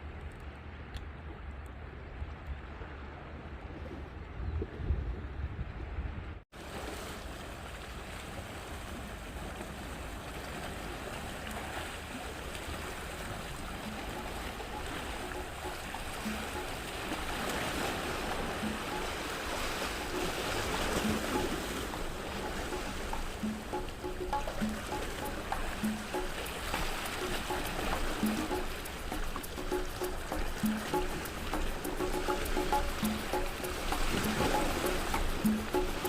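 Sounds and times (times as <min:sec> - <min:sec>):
sea waves washing onto shore: 0:06.6 - 0:36.0.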